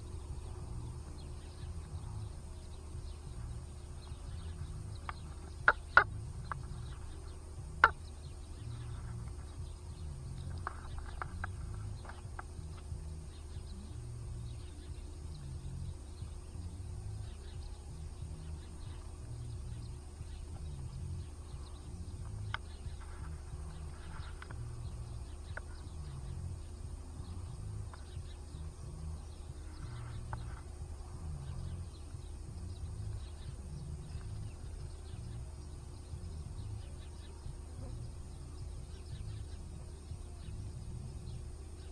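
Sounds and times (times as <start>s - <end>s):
faint high whine: 0.0s - 41.9s
low background hum: 0.0s - 41.9s.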